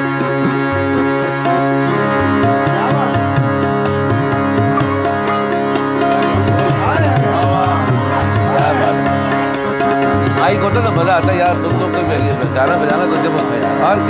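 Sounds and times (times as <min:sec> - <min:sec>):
harmonium drone: 0:00.0 - 0:14.0
sitar melody with sliding notes: 0:00.0 - 0:14.0
tabla: 0:00.0 - 0:14.0.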